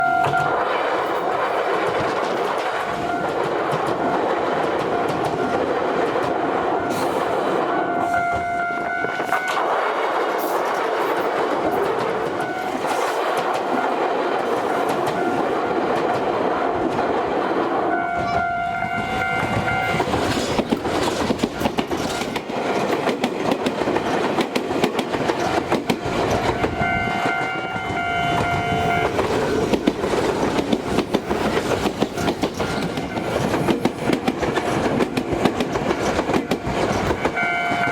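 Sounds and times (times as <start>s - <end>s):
train wheels clattering over rails: 0.0s - 37.9s.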